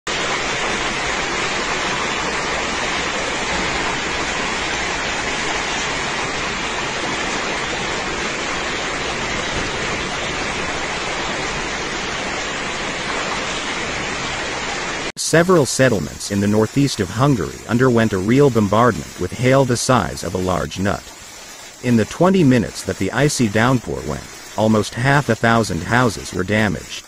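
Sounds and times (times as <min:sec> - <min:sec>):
torrential rain downpour: 0:00.1 - 0:27.0.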